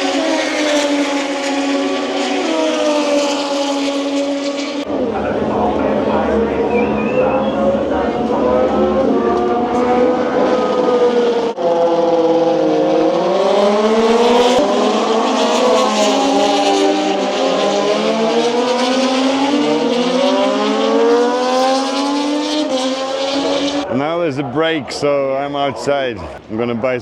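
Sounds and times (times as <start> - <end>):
racing motorcycle engines revving: 0.0 - 27.0.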